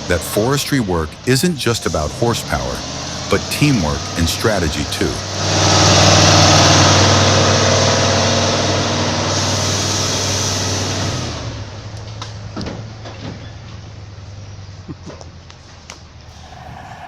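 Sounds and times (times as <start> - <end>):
truck diesel engine running: 0.0 - 14.7.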